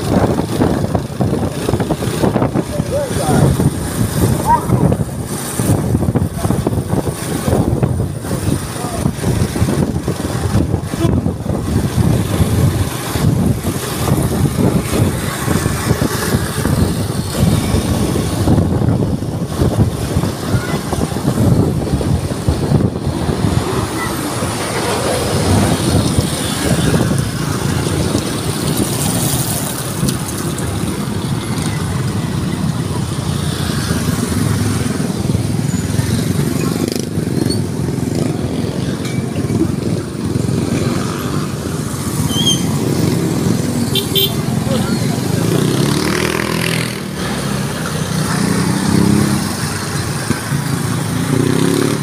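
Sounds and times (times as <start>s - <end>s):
motorcycle engine: 0.0s - 52.0s
wind buffeting microphone: 0.0s - 52.0s.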